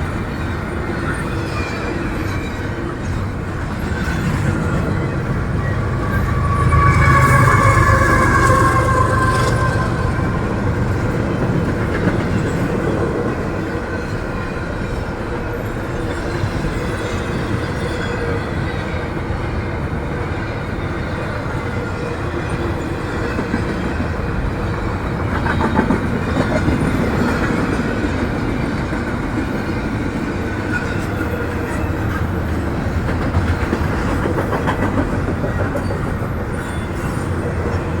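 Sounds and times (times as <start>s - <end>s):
train wheels on rails: 0.0s - 38.0s.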